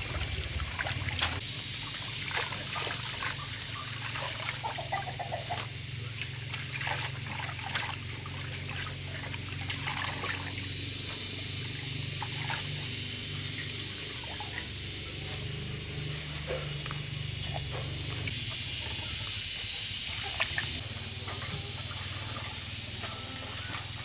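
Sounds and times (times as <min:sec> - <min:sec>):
small splashes and clicks: 0:00.0 - 0:23.2
steady low hum: 0:00.0 - 0:24.0
water trickling: 0:00.0 - 0:24.0.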